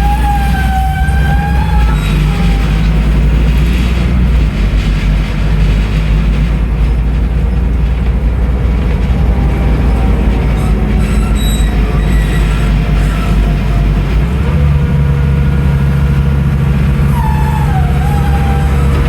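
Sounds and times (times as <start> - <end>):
bus diesel engine rumbling: 0.0 - 19.0
road and body noise: 0.0 - 19.0.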